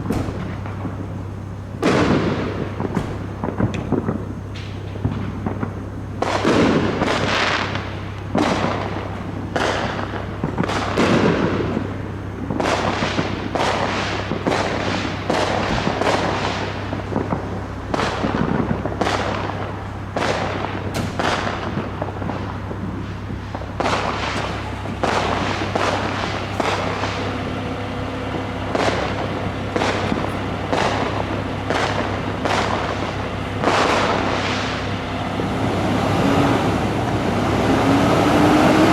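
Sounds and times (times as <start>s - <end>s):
fireworks bangs and crackles: 0.0s - 38.9s
steady low hum: 0.0s - 38.9s.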